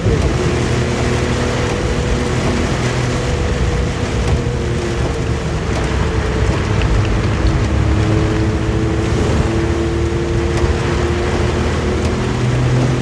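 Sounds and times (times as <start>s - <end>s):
heavy rain: 0.0s - 13.0s
two-stroke engine running: 0.0s - 13.0s
wet road noise: 0.0s - 13.0s.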